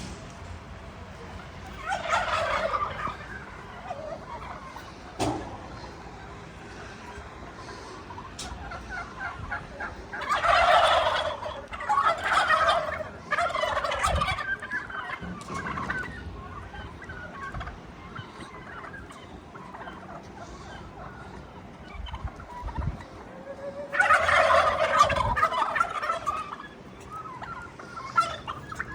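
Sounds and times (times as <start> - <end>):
turkeys gobbling: 0.0 - 28.9.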